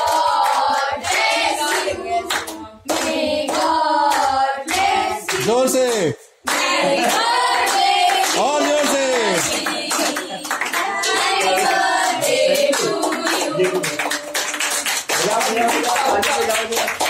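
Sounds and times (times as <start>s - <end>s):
group singing birthday song: 0.0s - 17.0s
people clapping in time: 0.0s - 17.0s.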